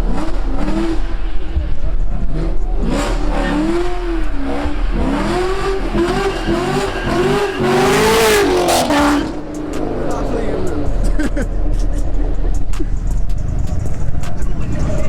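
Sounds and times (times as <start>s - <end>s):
car engine revving hard: 0.0s - 15.0s
spinning tires hissing: 0.0s - 15.0s.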